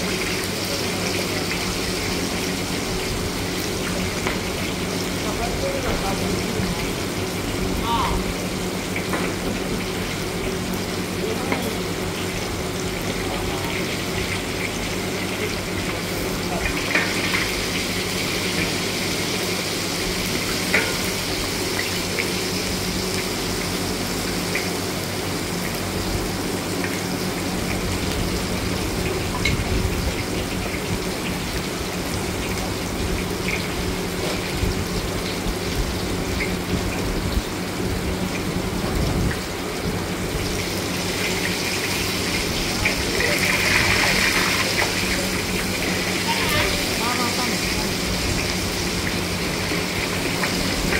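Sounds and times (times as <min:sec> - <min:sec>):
oil sizzling in a wok: 0:00.0 - 0:50.9.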